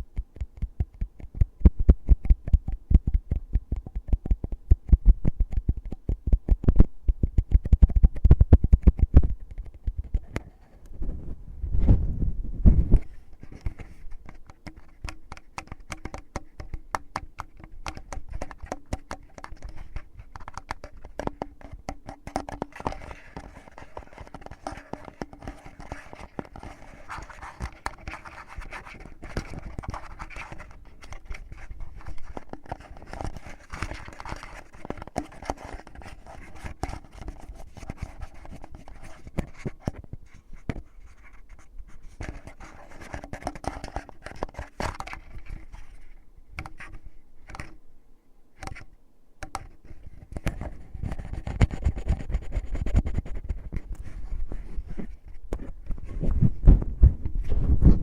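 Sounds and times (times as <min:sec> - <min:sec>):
fingertips scratching microphone: 0:00.0 - 0:47.8, 0:49.5 - 0:58.0.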